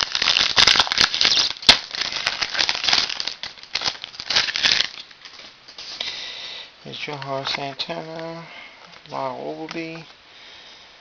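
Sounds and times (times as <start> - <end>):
wrapper crinkling and tearing: 0.0 - 6.2, 6.9 - 10.2.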